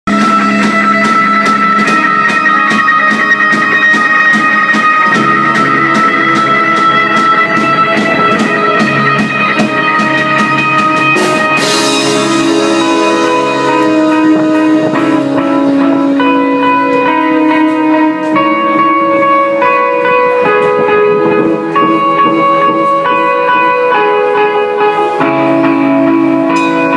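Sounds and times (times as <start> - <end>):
guitar playing: 0.1 - 26.9.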